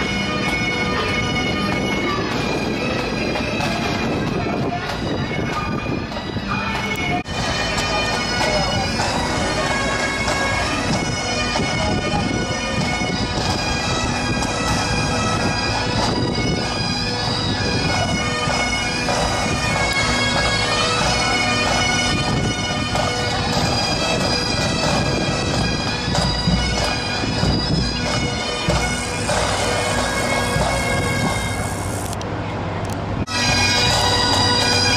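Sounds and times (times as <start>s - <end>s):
bagpipe band playing: 0.0s - 32.2s, 33.2s - 34.9s.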